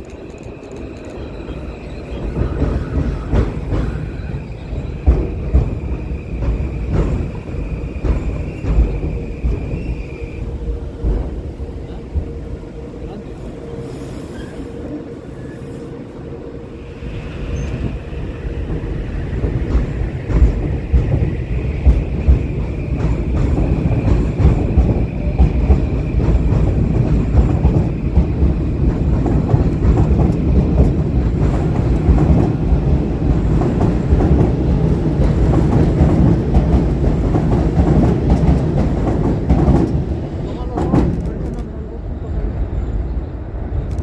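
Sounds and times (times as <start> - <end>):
train rumbling past: 0.0 - 44.0.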